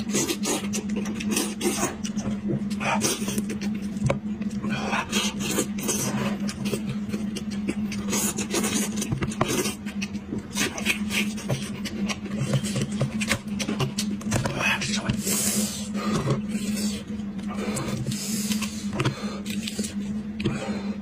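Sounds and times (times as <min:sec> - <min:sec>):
wet chewing: 0:00.0 - 0:20.6.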